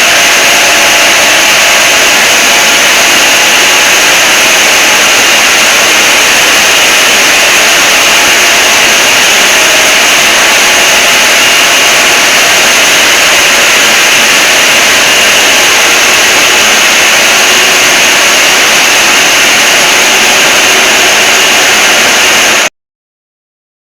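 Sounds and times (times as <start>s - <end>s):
loud distorted static hiss: 0.0s - 22.7s.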